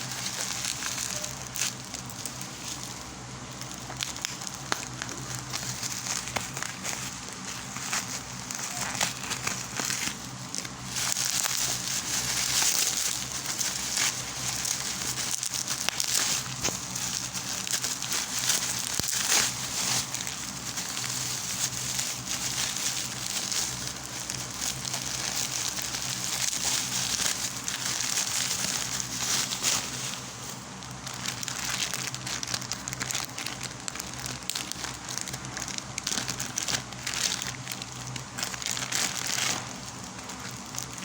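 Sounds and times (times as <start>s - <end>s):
packaging crinkling: 0.0s - 41.0s.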